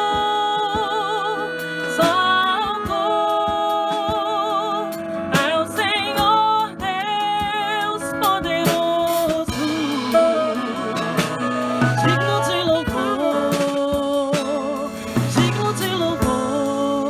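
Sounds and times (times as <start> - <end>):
person singing with vibrato: 0.0 - 17.0
sustained instrumental accompaniment: 0.0 - 17.0.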